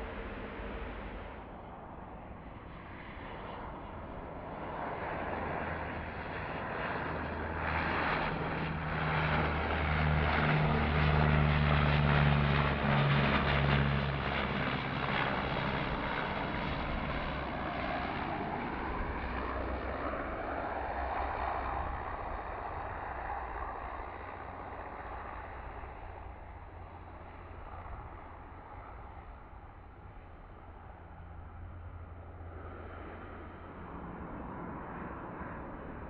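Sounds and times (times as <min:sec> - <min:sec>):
propeller drone: 0:00.0 - 0:36.0.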